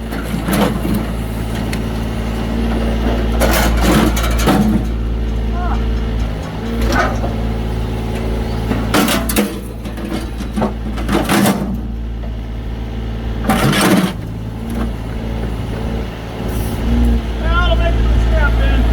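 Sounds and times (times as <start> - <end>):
clattering scraping bursts: 0.0 - 12.4, 13.4 - 17.6
excavator engine running: 0.0 - 18.9.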